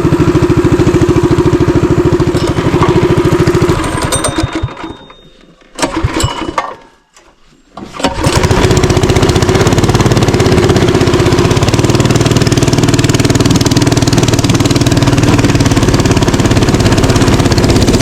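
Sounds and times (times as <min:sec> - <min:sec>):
small engine putter: 0:02.1 - 0:06.9, 0:07.8 - 0:18.0.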